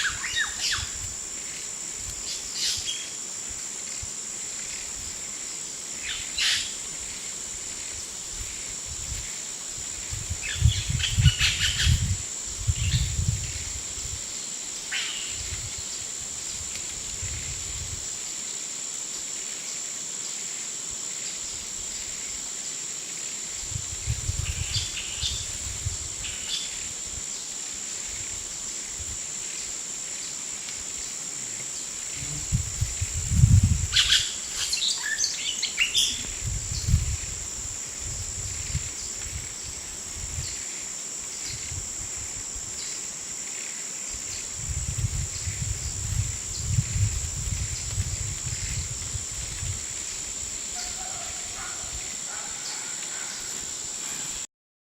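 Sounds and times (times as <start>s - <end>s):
high-pitched insect drone: 0.0s - 54.5s.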